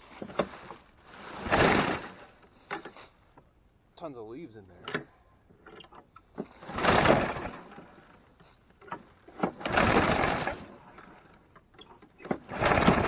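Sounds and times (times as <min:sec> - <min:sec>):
mower recoil starter pulled: 0:00.1 - 0:03.0, 0:04.8 - 0:13.0.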